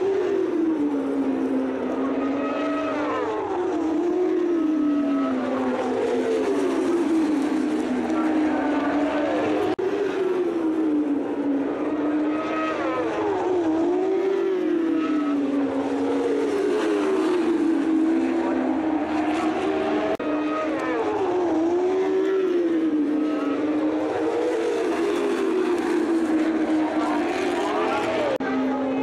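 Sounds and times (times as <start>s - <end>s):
racing motorcycle engines: 0.0s - 29.0s.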